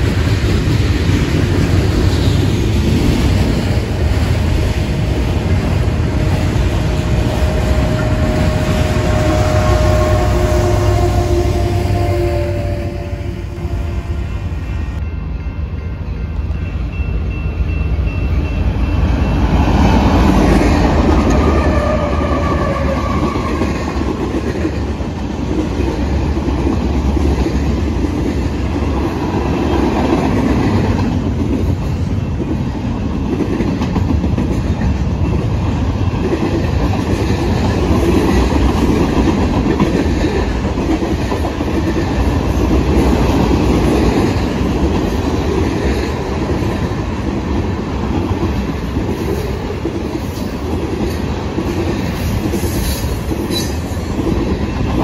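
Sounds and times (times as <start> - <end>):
locomotives passing: 0.0 - 55.0.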